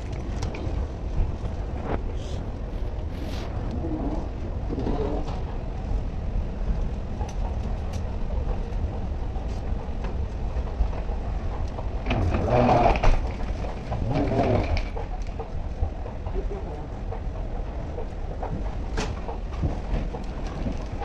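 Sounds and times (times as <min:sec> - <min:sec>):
escalator rumbling: 0:00.0 - 0:21.0.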